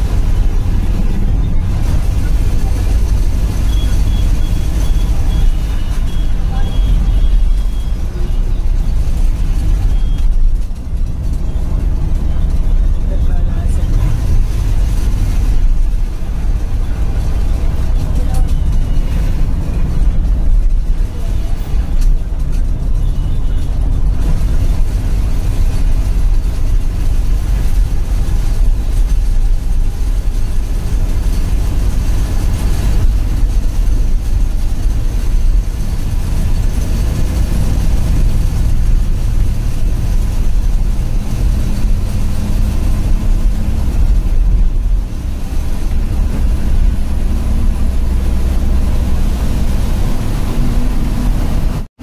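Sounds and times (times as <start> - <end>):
bus diesel engine drone: 0.0 - 52.0
road and tyre noise: 0.0 - 52.0.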